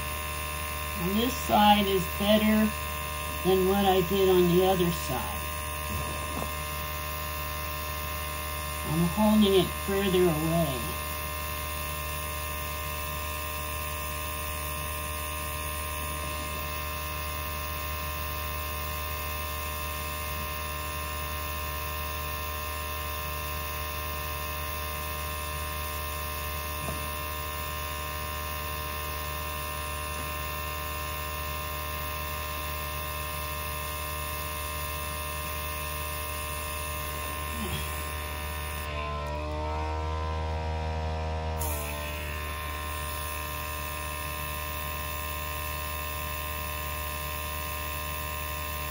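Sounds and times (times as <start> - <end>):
air compressor humming: 0.0 - 48.9.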